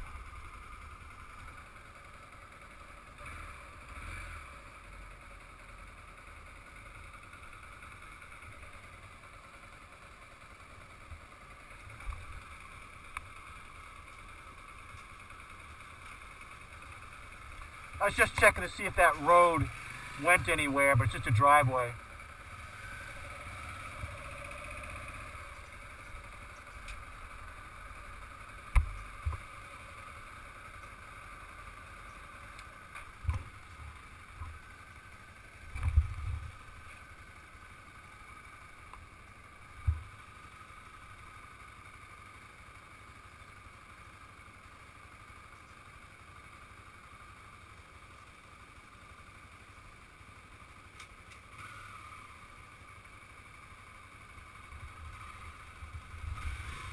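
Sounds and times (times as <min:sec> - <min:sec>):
small motorcycle engine idling: 0:00.0 - 0:56.9.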